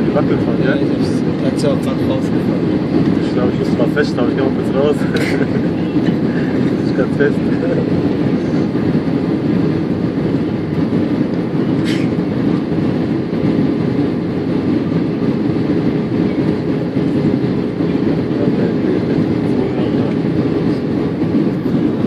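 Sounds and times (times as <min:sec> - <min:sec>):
airplane cabin airflow and engine drone: 0:00.0 - 0:22.0.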